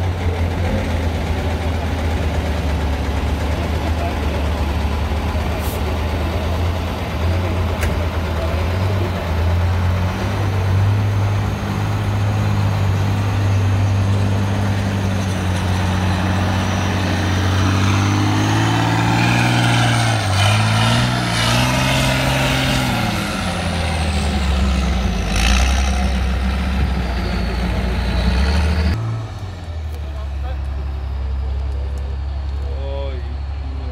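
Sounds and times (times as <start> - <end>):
truck engine revving under load: 0.0 - 33.9.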